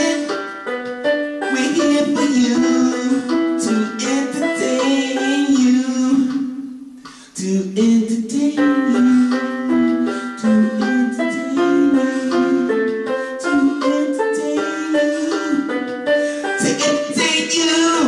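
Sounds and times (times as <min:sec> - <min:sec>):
electronic keyboard tune: 0:00.0 - 0:18.0.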